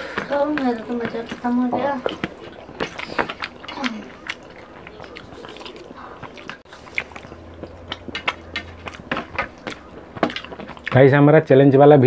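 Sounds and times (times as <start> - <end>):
chewing and mouth smacks: 0.0 - 11.1
fingers squishing food on plates: 0.0 - 11.6.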